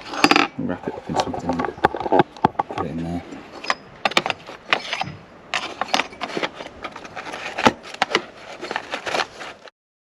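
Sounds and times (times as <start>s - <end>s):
items rustling and scraping: 0.0s - 9.7s.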